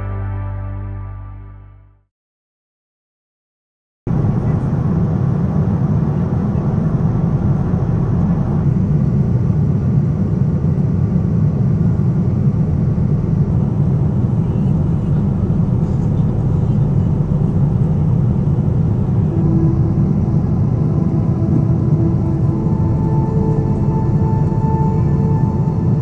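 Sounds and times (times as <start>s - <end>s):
low drone of travelling vehicle: 4.1s - 26.0s.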